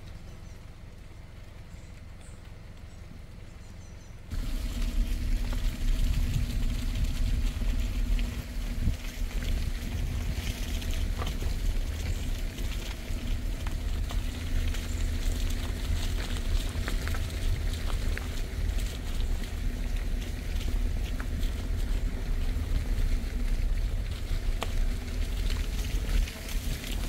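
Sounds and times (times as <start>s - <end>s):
wind buffeting microphone: 4.3s - 27.0s.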